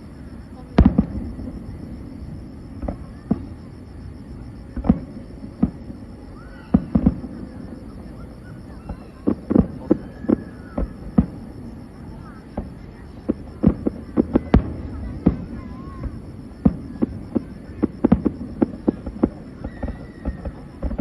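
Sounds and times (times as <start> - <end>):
fireworks bursting in bangs: 0.6 - 3.8, 4.6 - 21.0.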